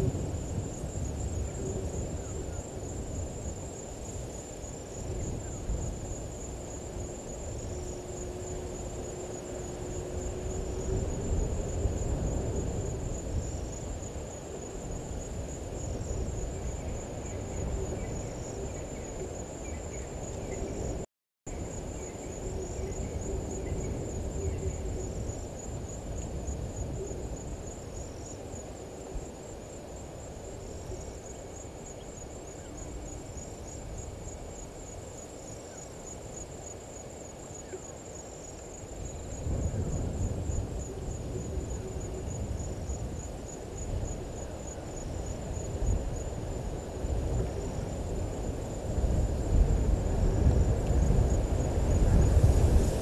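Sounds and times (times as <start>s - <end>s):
insect trill: 0.0s - 53.0s.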